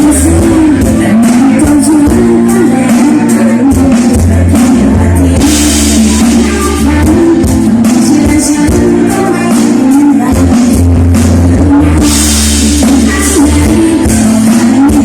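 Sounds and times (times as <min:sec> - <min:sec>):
band music with drums and bass: 0:00.0 - 0:15.0
woman singing: 0:00.0 - 0:15.0.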